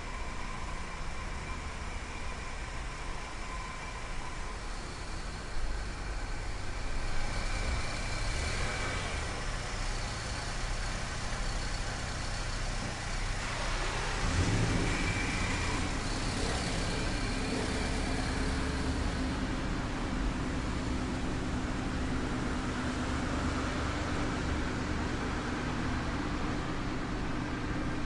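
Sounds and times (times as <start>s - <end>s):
rumbling hissing garage ambience: 0.0s - 28.0s.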